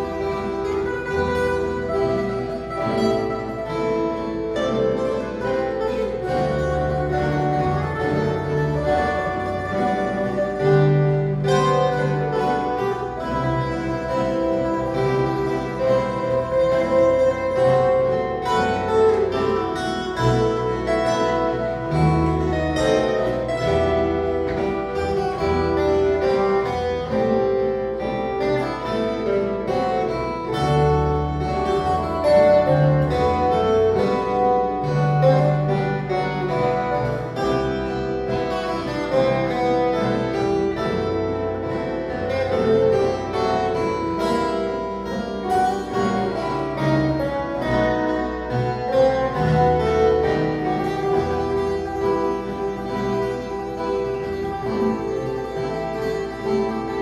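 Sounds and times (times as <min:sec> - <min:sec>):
guitar ensemble playing: 0:00.0 - 0:57.0.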